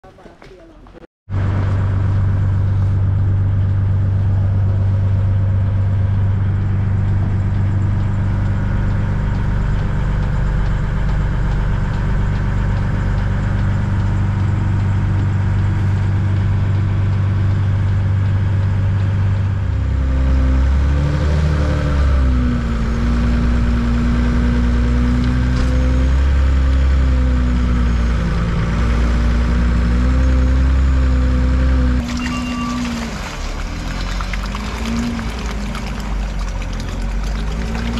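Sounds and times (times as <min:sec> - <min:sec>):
tracked vehicle engine idling: 0:01.3 - 0:21.0, 0:21.9 - 0:37.9.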